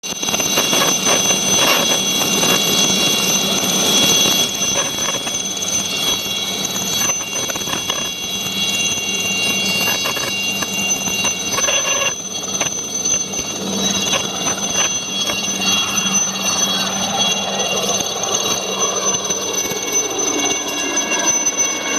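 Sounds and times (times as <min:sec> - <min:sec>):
helicopter engine and rotor: 0:00.0 - 0:21.9
high whine: 0:00.0 - 0:21.9.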